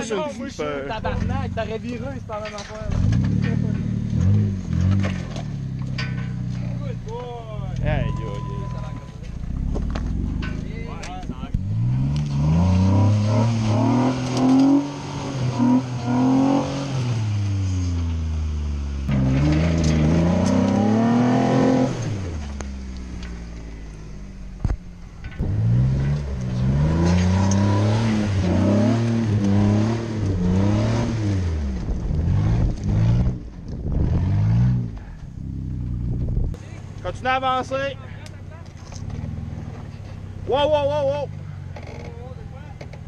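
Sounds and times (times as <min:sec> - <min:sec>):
engine revving: 0:00.7 - 0:36.3.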